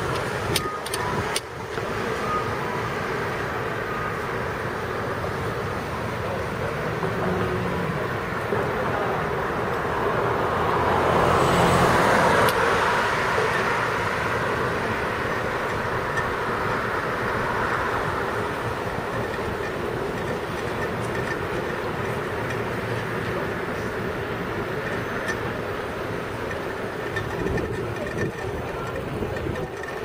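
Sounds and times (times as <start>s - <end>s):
city traffic: 0.0s - 30.0s.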